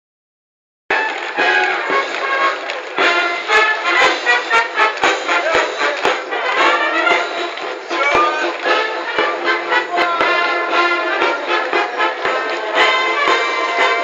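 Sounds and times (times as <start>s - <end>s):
brass band playing a march: 0.9s - 14.0s.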